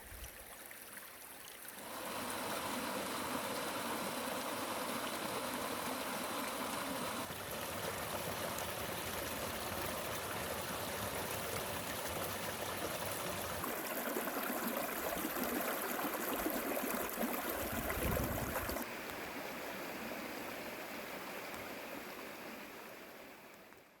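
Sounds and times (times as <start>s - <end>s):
forest stream flowing: 0.0s - 24.0s.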